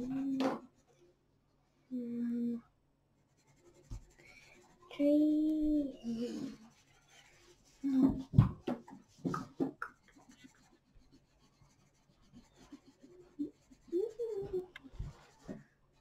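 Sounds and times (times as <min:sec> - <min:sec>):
pencil scratching on paper: 0:00.0 - 0:01.1, 0:03.2 - 0:16.0.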